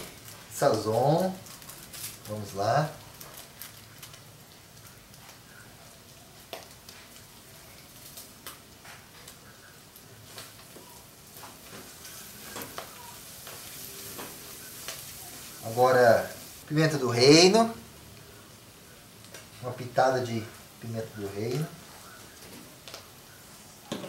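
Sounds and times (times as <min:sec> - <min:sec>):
food sizzling in a pot: 0:00.0 - 0:24.0.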